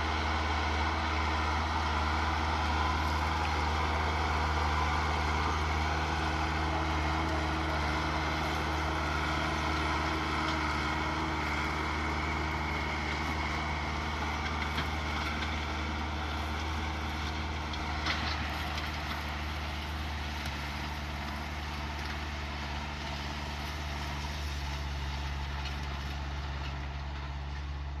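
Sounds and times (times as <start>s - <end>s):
tractor diesel engine idling: 0.0s - 28.0s.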